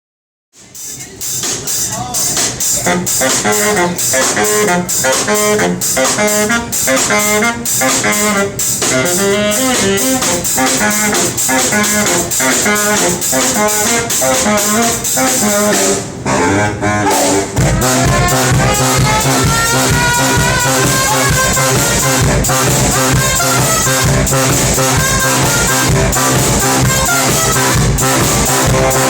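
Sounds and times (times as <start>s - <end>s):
heavy bass line: 0.9s - 29.0s
brass band playing upbeat tune: 1.2s - 29.0s.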